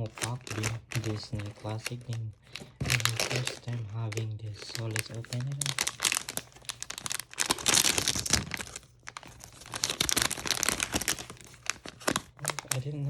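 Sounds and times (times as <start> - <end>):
toy packaging crinkling and tearing: 0.0 - 13.0.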